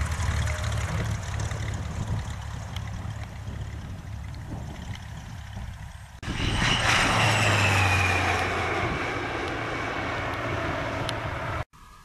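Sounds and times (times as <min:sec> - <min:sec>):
propeller aircraft flying overhead: 0:00.0 - 0:12.0.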